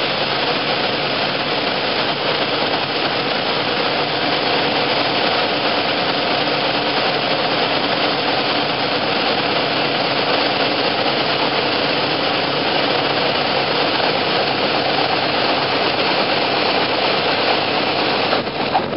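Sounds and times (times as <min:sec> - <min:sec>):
aircraft piston engine and propeller: 0:00.0 - 0:18.9
rush of airflow: 0:00.0 - 0:18.9.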